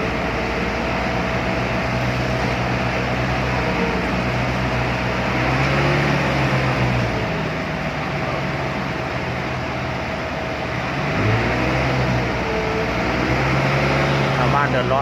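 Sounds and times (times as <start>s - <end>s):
continuous noise: 0.0s - 15.0s
vehicle engine running: 0.0s - 15.0s.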